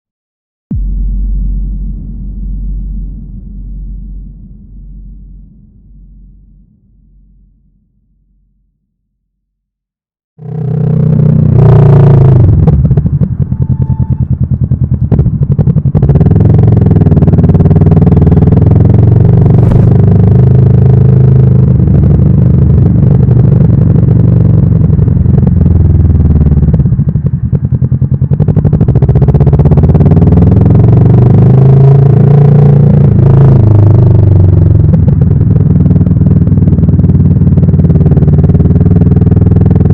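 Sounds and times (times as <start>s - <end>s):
motorcycle engine running: 0.7s - 7.8s, 10.4s - 39.9s.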